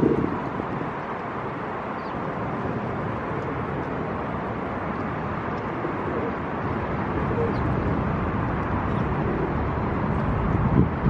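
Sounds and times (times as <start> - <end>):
city traffic: 0.0 - 11.0
wind: 0.0 - 11.0.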